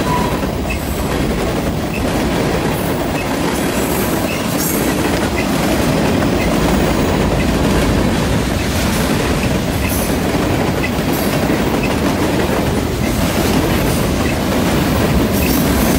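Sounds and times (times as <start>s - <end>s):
train wheels rumbling past: 0.0s - 15.9s
wheels clicking over rail joints: 0.0s - 15.9s.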